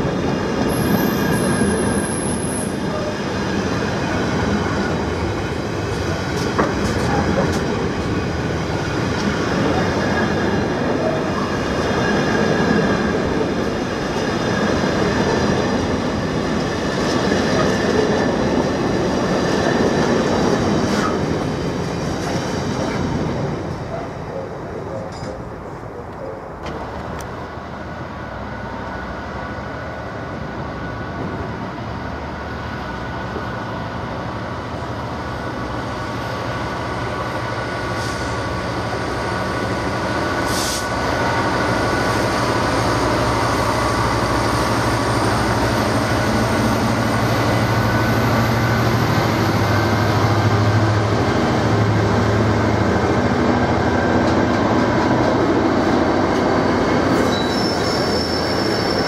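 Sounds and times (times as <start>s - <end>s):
diesel locomotive engine: 0.0s - 59.0s
freight train rolling past: 0.0s - 59.0s.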